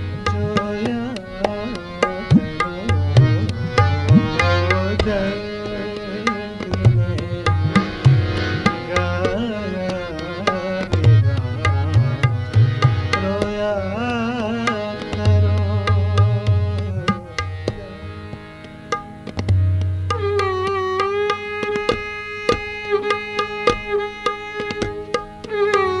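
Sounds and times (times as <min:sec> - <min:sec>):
tabla playing a rhythm: 0:00.0 - 0:26.0.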